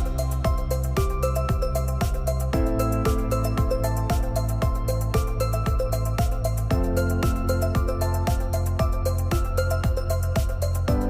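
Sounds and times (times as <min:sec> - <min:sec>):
hi-hats: 0:00.0 - 0:11.0
kick drum beat: 0:00.0 - 0:11.0.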